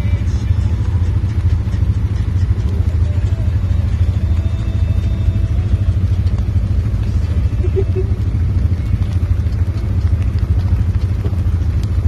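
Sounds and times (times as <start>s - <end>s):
utility vehicle engine idling: 0.0s - 12.0s.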